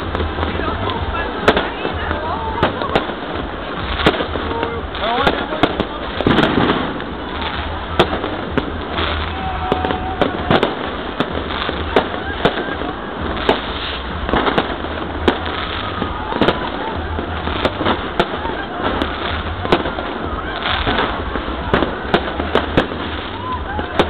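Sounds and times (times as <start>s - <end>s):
firework bangs: 0.0s - 24.0s
fireworks crackle and rumble: 0.0s - 24.0s.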